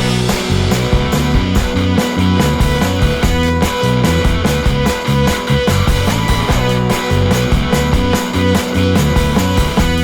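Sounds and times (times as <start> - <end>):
upbeat rock music: 0.0 - 10.0.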